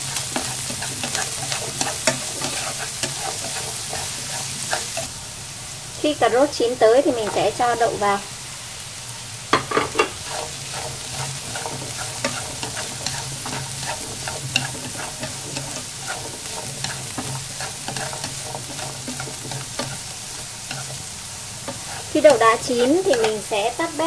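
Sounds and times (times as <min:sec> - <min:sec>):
spatula scraping a pan: 0:00.0 - 0:05.1, 0:07.1 - 0:07.6, 0:09.6 - 0:24.0
food sizzling in a frying pan: 0:00.0 - 0:24.0.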